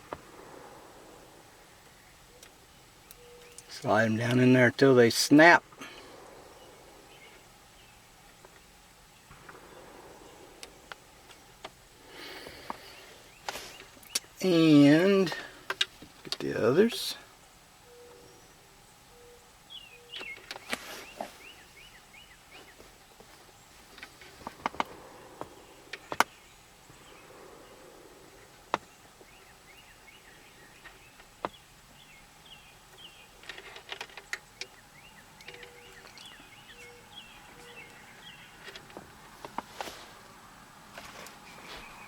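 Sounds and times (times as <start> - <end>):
bird chirping: 0.0 - 15.8, 16.4 - 39.6, 41.4 - 42.0.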